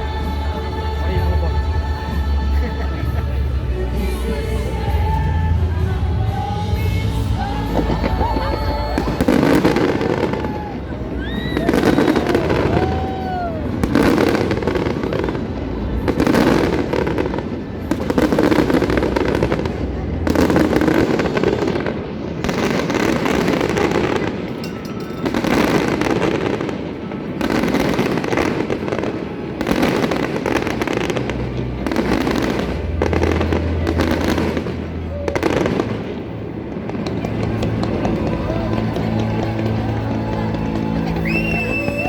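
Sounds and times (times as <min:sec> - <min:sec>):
fireworks bangs: 0:00.0 - 0:42.0
fireworks crackle and rumble: 0:00.0 - 0:42.0.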